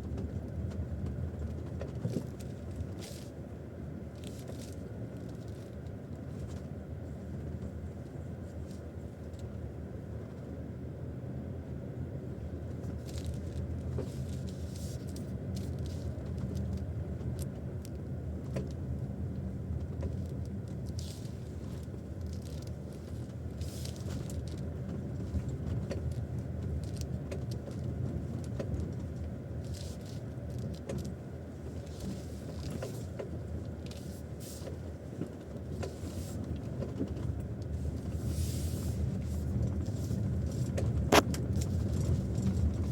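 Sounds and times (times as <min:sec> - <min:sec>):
low road rumble: 0:00.0 - 0:42.9.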